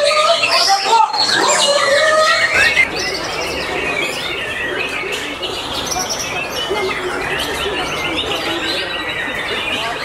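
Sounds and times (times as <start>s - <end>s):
birds singing chirping and whistling: 0.0s - 10.0s
crowd chatter: 0.0s - 10.0s.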